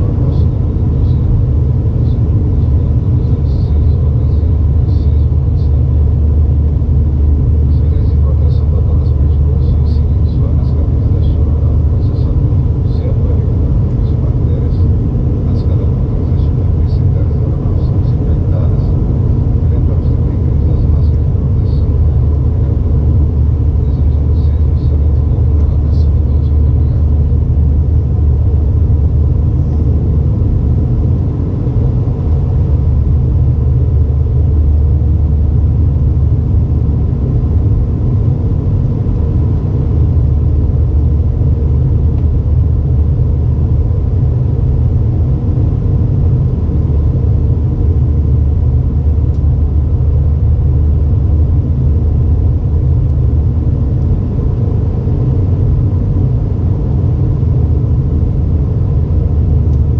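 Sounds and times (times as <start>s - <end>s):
airplane cabin engine rumble: 0.0s - 59.9s
faint steady hum: 0.0s - 59.9s.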